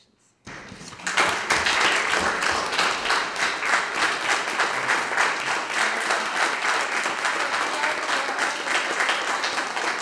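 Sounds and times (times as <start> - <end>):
crowd applauding: 1.0 - 10.0.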